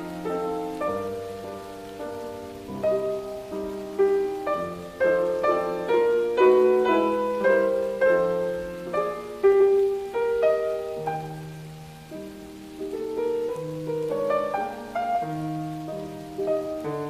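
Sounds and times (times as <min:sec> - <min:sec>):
solo piano melody with chords: 0:00.0 - 0:17.0.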